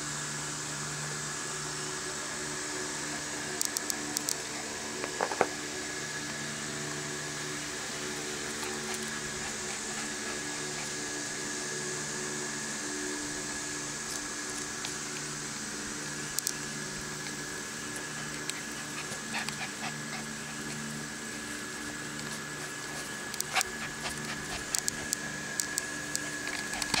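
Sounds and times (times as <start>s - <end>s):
droning hum: 0.0s - 27.0s
puppies playing: 3.1s - 27.0s.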